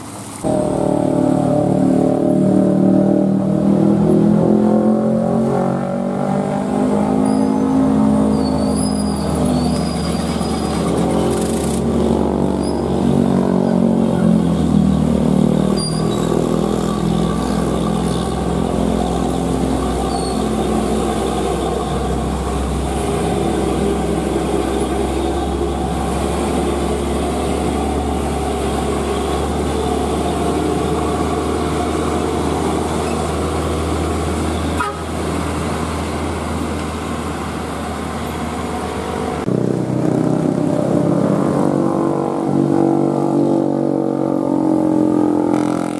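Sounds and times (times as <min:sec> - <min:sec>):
traffic passing: 0:00.0 - 0:45.9
truck diesel engine labouring: 0:00.0 - 0:45.9.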